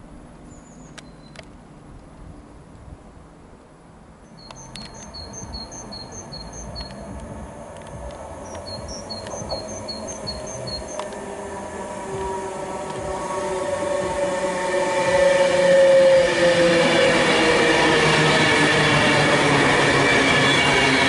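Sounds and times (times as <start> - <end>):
electric train approaching: 0.0 - 21.0.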